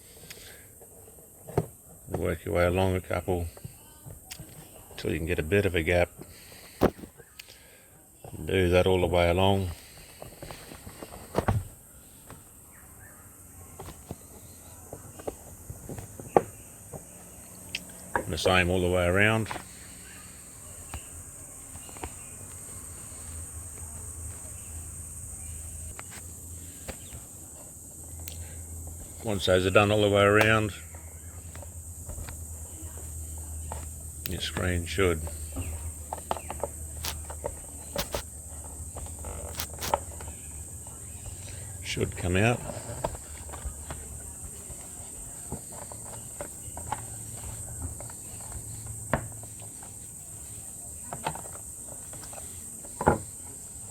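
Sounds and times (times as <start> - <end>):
crickets chirring: 0.0 - 53.9.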